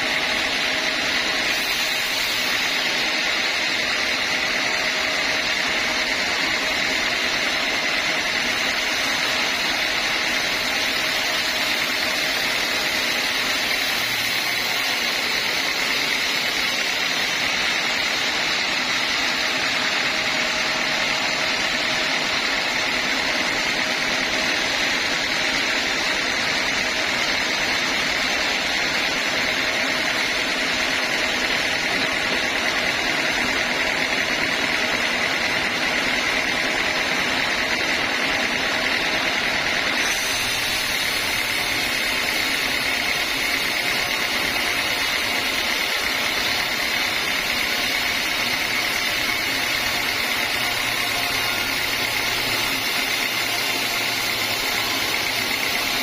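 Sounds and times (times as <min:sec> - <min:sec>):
band sawmill drone and whine: 0:00.0 - 0:56.0.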